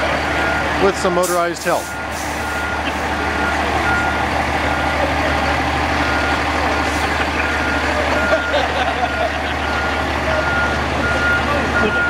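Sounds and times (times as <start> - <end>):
diesel engine running: 0.0 - 12.0
truck backup alarm beeping: 0.0 - 12.0.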